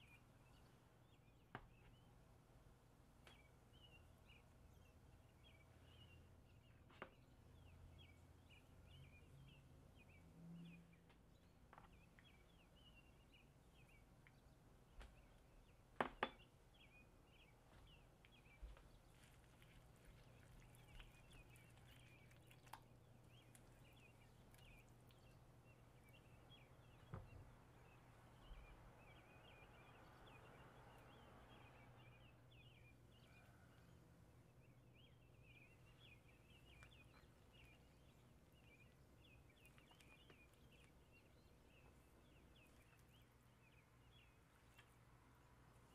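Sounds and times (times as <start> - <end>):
faint bird chirping: 0.0 - 45.9.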